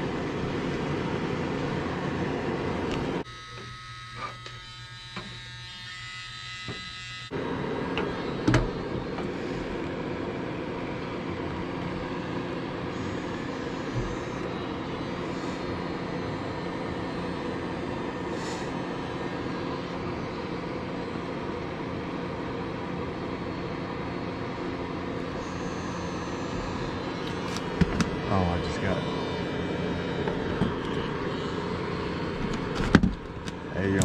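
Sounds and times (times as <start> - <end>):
machine running with low hum: 0.0 - 34.0.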